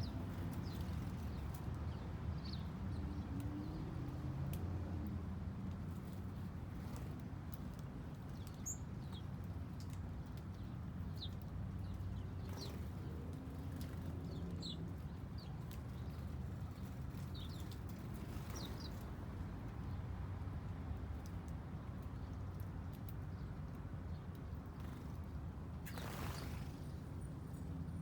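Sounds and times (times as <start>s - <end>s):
small birds chirping: 0.0s - 4.2s, 5.8s - 20.1s, 21.2s - 28.0s.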